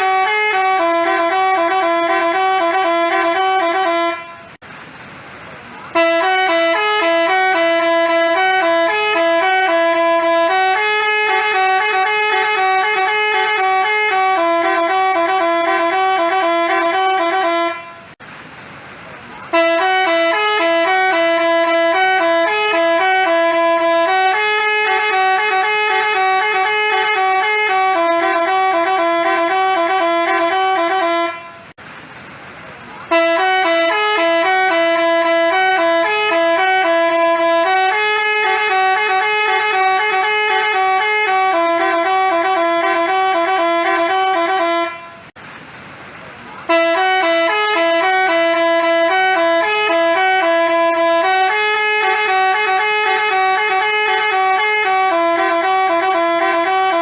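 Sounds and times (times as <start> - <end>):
musical bus horn tune: 0.0 - 4.7, 5.8 - 18.2, 19.4 - 31.8, 33.0 - 45.4, 46.6 - 57.0.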